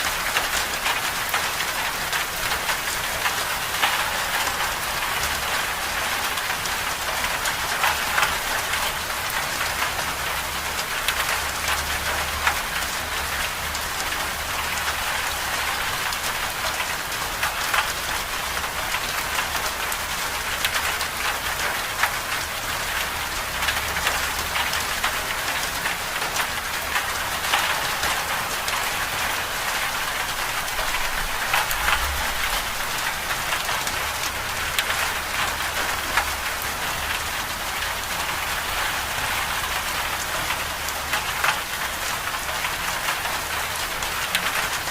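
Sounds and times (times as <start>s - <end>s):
steady rain patter: 0.0s - 44.9s.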